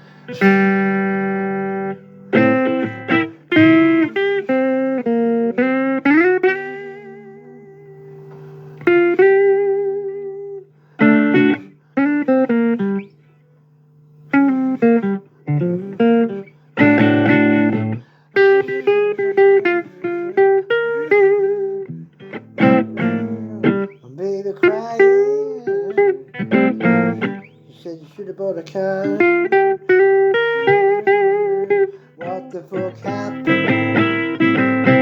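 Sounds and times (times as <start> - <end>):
blues guitar playing: 0.0 - 35.0.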